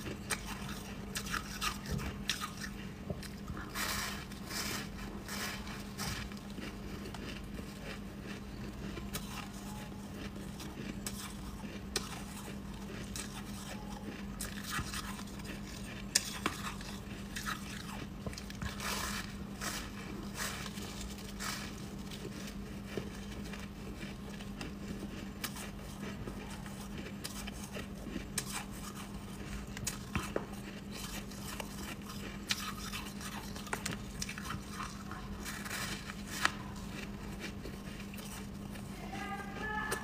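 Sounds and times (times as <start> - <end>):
ice being chewed: 0.0 - 40.0
steady low hum: 0.0 - 40.0.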